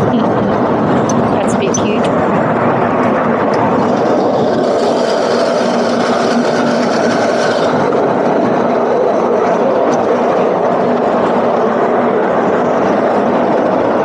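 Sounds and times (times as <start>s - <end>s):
train wheels rumbling and rattling: 0.0s - 14.0s.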